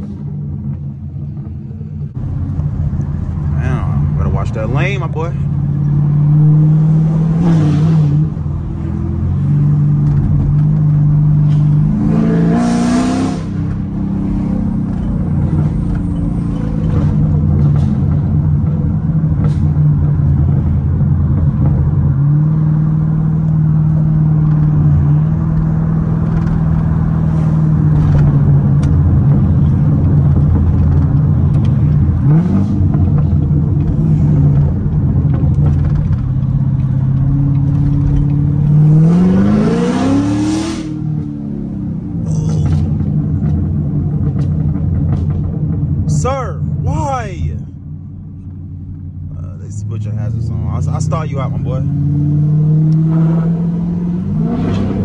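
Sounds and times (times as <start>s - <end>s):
car exhaust rumbling: 0.0s - 55.0s.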